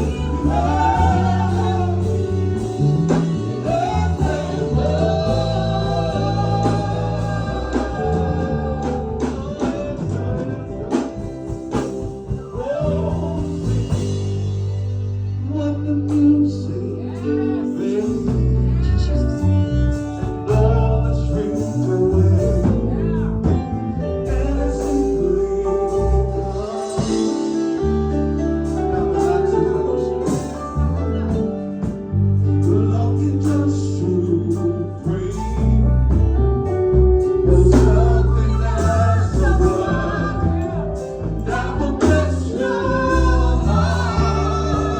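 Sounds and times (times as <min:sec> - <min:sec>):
people singing: 0:00.0 - 0:14.6, 0:15.4 - 0:32.0, 0:32.6 - 0:35.8, 0:37.3 - 0:44.9
gospel band playing: 0:00.0 - 0:44.9.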